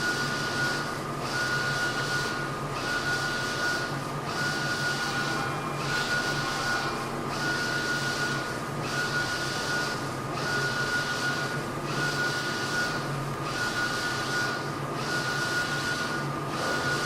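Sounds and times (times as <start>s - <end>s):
printer carriage whirring: 0.0s - 17.0s.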